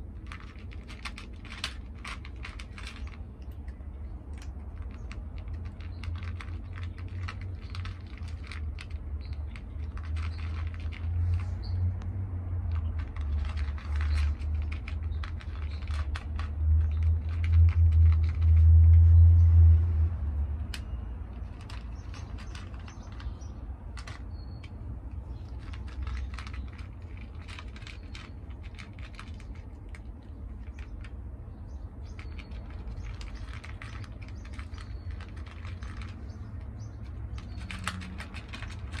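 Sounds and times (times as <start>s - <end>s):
cats chewing clicks: 0.0s - 18.6s, 20.6s - 31.2s, 31.9s - 39.0s
steady low rumble: 0.0s - 39.0s.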